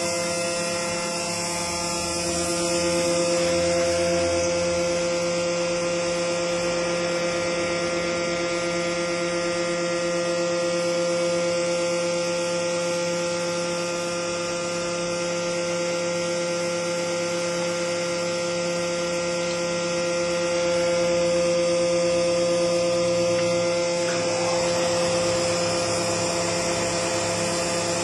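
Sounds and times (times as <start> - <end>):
engraving machine whine: 0.0 - 28.0.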